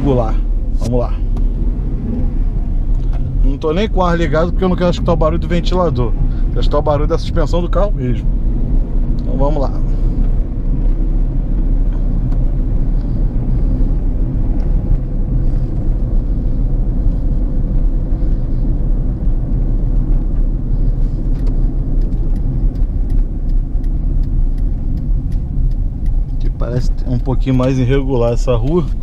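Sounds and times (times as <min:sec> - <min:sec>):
tyre and engine rumble: 0:00.0 - 0:29.0.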